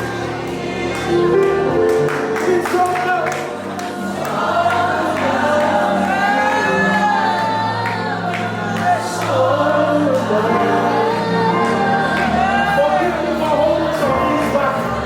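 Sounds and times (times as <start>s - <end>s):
keyboard and bass chords: 0.0s - 15.0s
voices singing slow melody: 0.0s - 15.0s.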